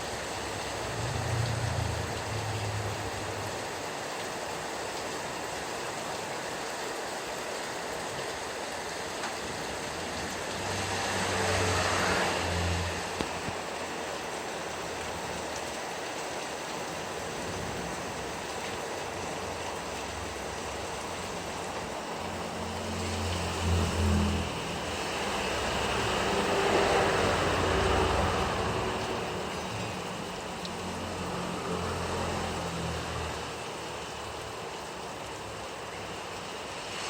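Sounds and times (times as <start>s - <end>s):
heavy rain falling: 0.0s - 37.0s
vehicle passing on wet road: 0.0s - 37.0s.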